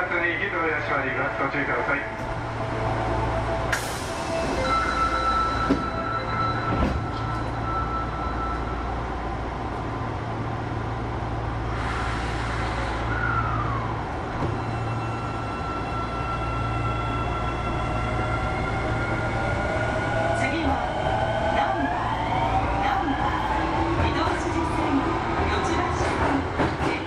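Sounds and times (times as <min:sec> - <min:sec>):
subway train electrical whine: 0:00.0 - 0:26.8.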